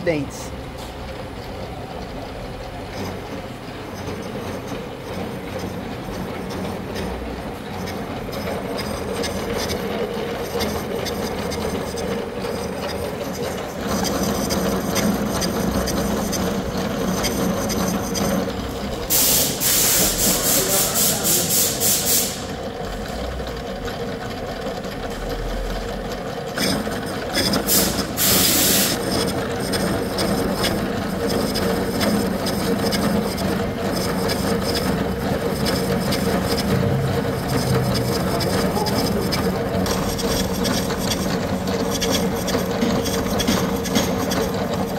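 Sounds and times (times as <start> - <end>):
milling machine cutting metal: 1.1 - 44.9.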